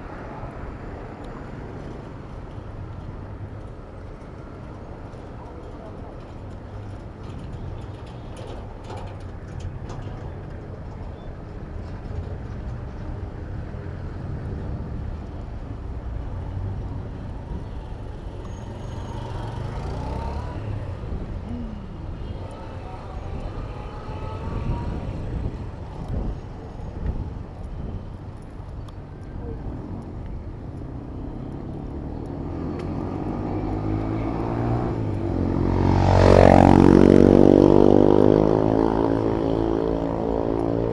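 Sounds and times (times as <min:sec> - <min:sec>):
vehicles passing: 0:00.0 - 0:40.9.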